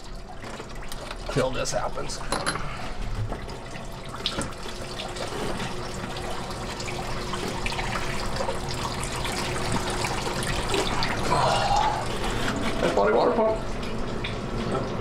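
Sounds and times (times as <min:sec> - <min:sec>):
coolant pouring into a pan: 0:00.0 - 0:15.0.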